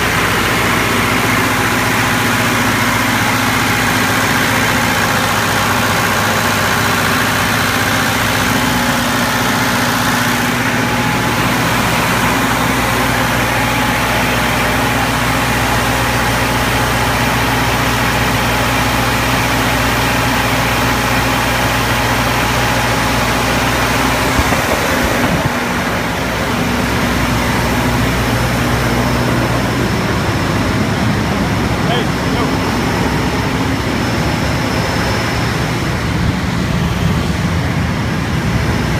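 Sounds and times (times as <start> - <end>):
engine humming: 0.0 - 38.9
machinery noise: 0.0 - 38.9.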